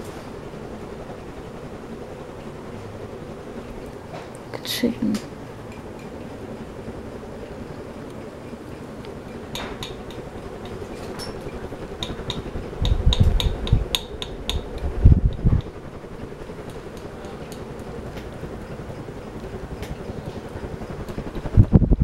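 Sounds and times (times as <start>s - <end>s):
ceiling fan humming: 0.0s - 22.0s.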